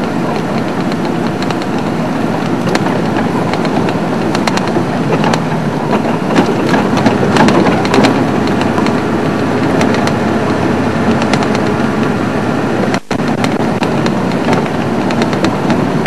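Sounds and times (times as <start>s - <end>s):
knocks and rattles over bumps: 0.0s - 16.0s
vehicle engine and road noise: 0.0s - 16.0s.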